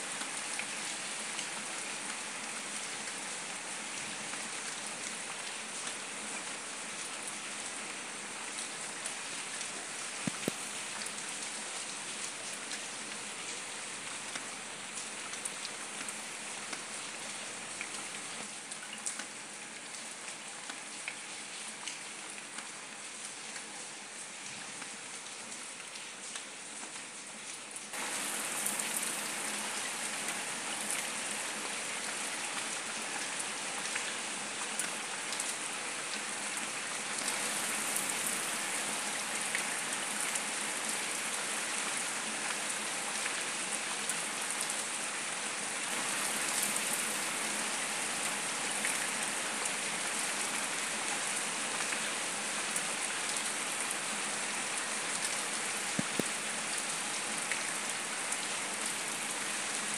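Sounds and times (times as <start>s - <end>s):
rain on paving and leaves: 0.0s - 59.9s.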